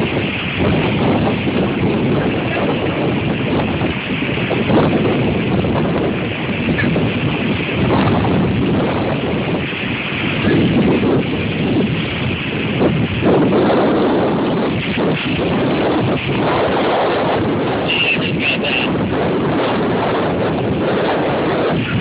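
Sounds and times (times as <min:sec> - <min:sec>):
storm wind buffeting microphone: 0:00.0 - 0:22.0.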